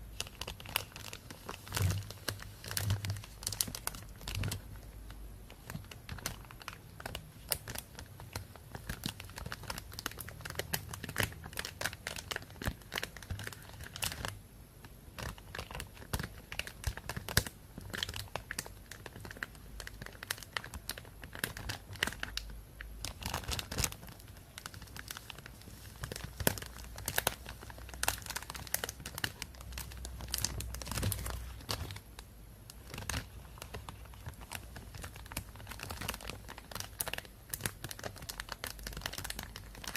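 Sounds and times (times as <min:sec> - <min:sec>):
plastic bag crinkling: 0:00.0 - 0:14.4, 0:15.1 - 0:39.9.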